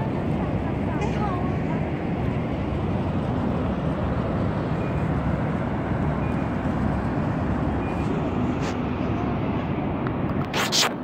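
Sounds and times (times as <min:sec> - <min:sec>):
low outdoor rumble: 0:00.0 - 0:10.6.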